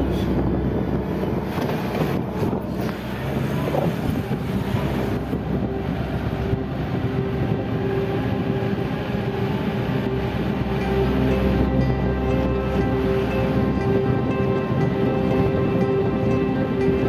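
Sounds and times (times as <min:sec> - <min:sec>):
vehicle engine running: 0:00.0 - 0:17.0
wind noise on microphone: 0:00.0 - 0:17.0.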